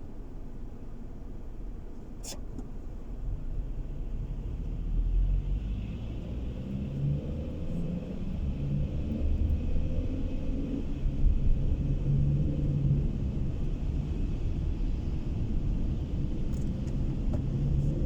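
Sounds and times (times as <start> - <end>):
car engine accelerating: 3.4 - 18.0.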